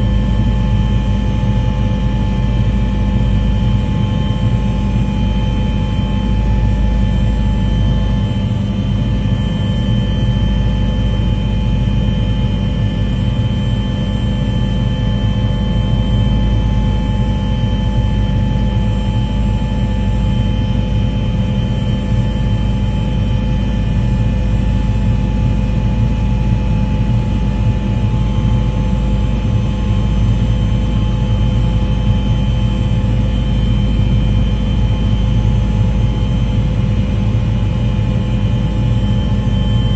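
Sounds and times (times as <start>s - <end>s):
engine drone with whining tones: 0.0s - 39.9s.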